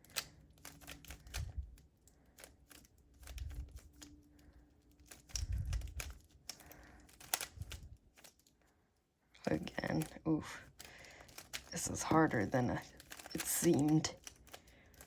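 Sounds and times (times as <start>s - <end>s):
plastic cube clicking: 0.0s - 8.6s, 9.6s - 11.7s, 12.8s - 15.0s.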